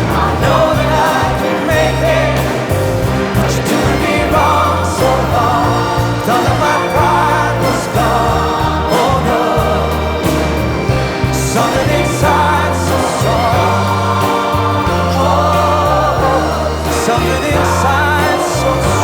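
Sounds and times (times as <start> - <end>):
song with singing: 0.0 - 19.0
steady bass notes: 0.0 - 19.0.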